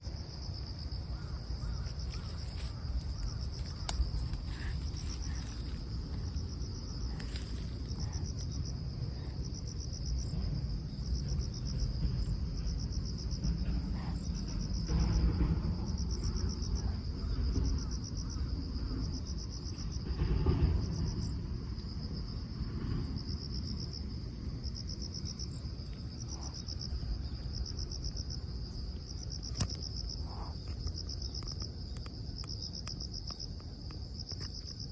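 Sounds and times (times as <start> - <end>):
low rumble: 0.0 - 34.0
insects chirping: 0.0 - 34.9.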